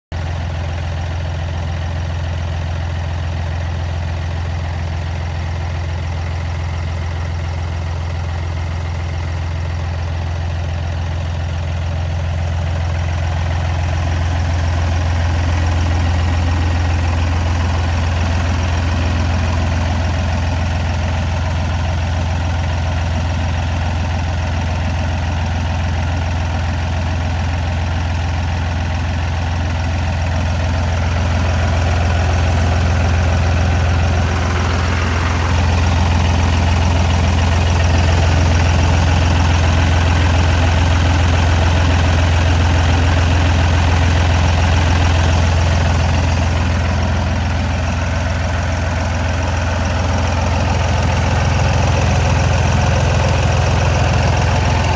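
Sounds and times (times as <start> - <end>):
tractor diesel engine idling: 0.0 - 54.9.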